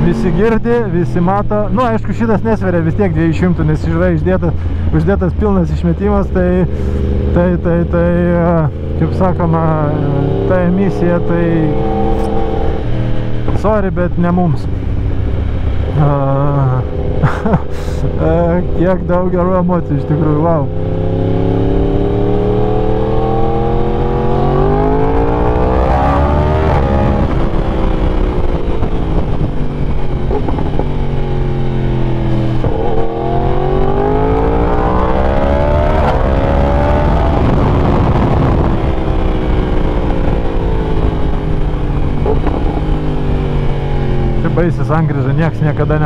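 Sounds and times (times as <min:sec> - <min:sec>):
motorcycle engine revving: 0:06.1 - 0:14.2, 0:14.8 - 0:46.0.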